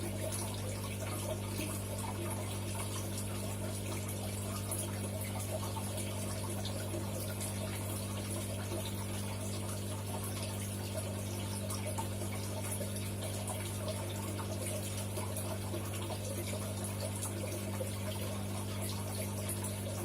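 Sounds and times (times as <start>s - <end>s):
pump electric hum: 0.0s - 20.0s
water running in aquarium: 0.0s - 20.0s.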